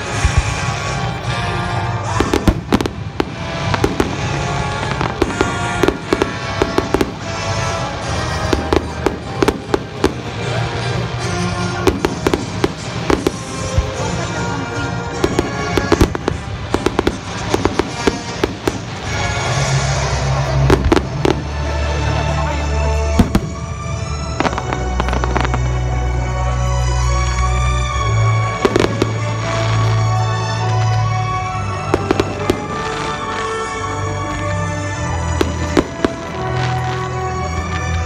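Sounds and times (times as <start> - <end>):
fireworks bangs and crackles: 0.0 - 38.0
loud music: 0.0 - 38.0.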